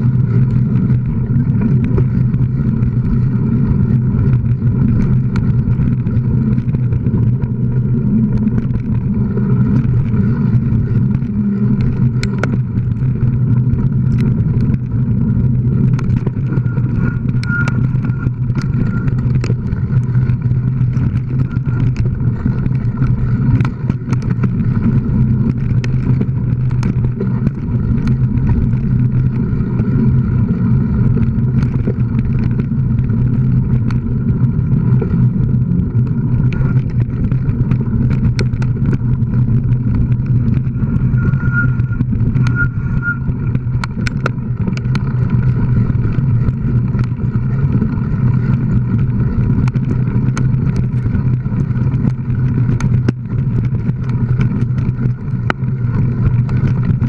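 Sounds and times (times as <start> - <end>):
bike rattling over bumps: 0.0 - 57.0
rumbling wind and ride noise: 0.0 - 57.0.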